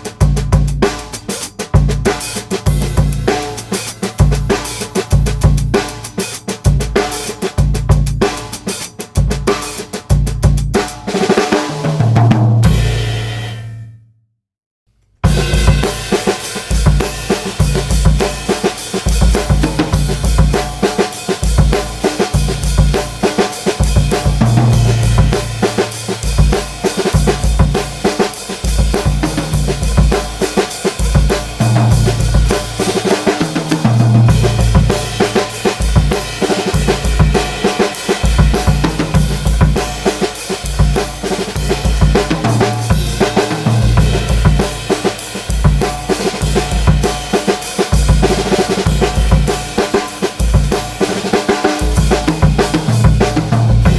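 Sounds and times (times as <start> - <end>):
drum kit groove: 0.0 - 13.9, 15.2 - 53.9.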